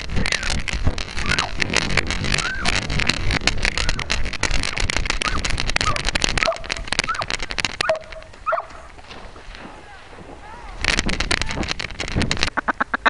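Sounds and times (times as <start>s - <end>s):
feathers rustling on camera: 0.0s - 12.7s.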